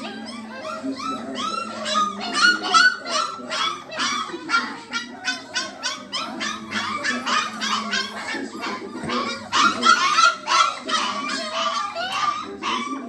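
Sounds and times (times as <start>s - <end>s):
puppies yipping and whining: 0.0s - 13.0s.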